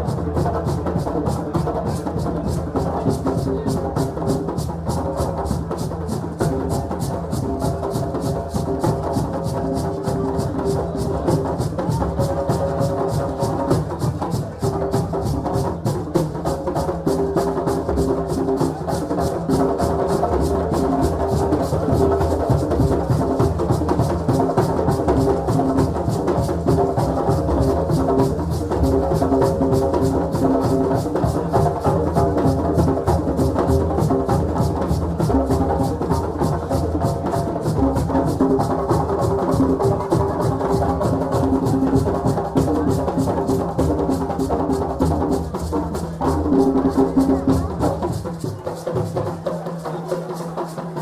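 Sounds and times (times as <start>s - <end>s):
drum ensemble fast rhythm: 0.0s - 51.0s.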